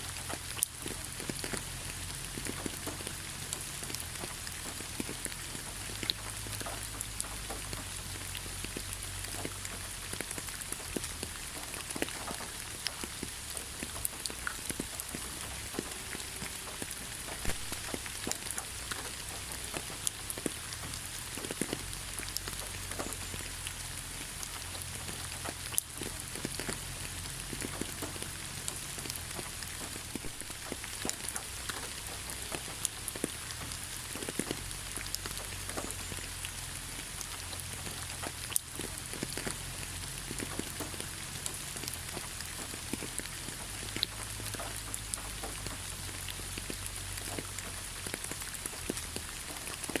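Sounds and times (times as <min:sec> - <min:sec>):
rain pattering on leaves: 0:00.0 - 0:50.0.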